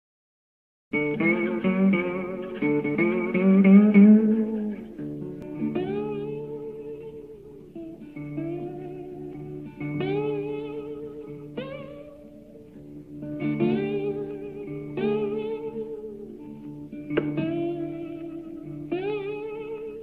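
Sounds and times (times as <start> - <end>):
guitar melody with bent notes: 0.9 - 20.0.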